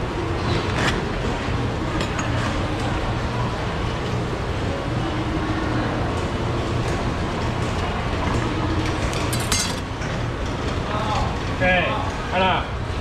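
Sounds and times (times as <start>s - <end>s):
rumbling background din: 0.0s - 13.0s.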